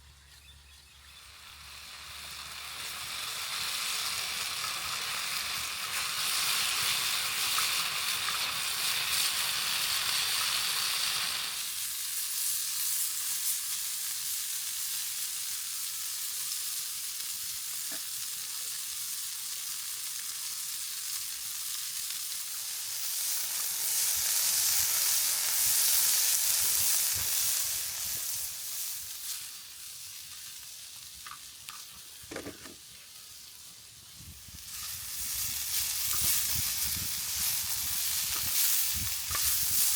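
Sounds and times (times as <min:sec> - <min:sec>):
food sizzling in a skillet: 0:01.2 - 0:39.9.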